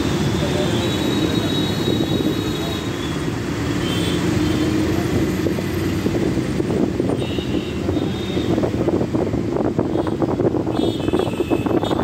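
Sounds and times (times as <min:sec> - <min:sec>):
bus engine hum: 0:00.0 - 0:10.7
road noise: 0:00.0 - 0:12.0.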